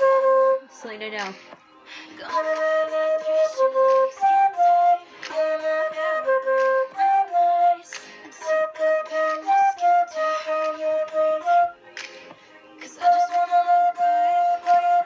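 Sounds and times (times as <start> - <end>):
solo flute melody: 0.0 - 0.9, 2.2 - 12.0, 12.8 - 15.0.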